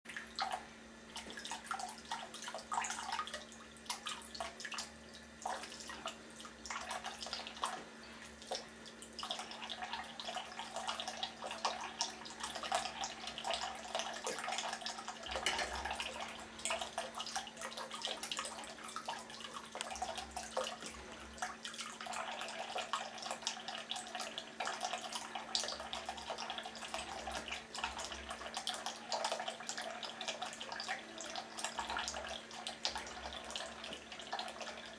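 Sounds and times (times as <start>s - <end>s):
tap water trickling into basin: 0.1s - 34.9s.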